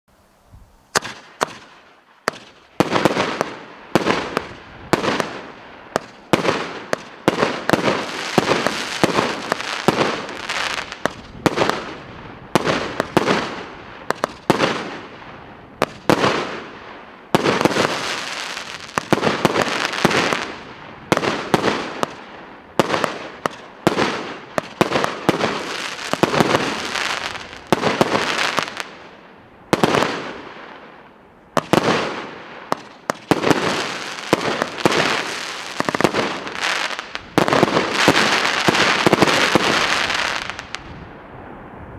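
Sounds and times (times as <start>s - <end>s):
fireworks shots with crackling: 0.9s - 41.1s.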